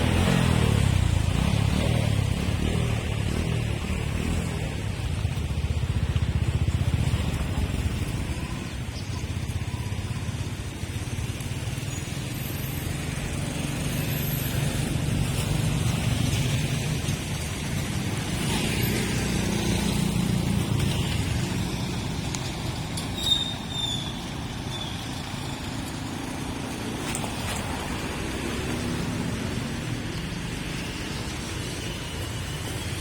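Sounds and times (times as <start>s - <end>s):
motorbike and car engines passing: 0.0s - 33.0s.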